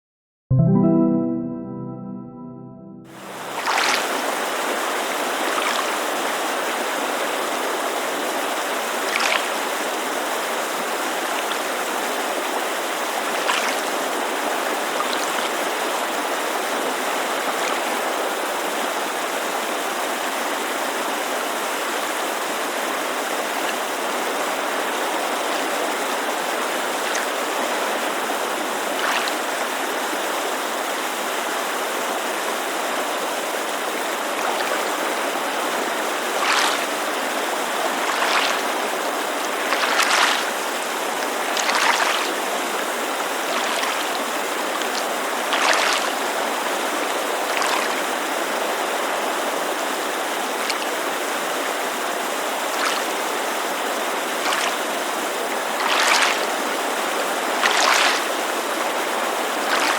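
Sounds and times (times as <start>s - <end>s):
mountain creek rushing: 3.2s - 59.9s
water splashes: 3.2s - 59.9s.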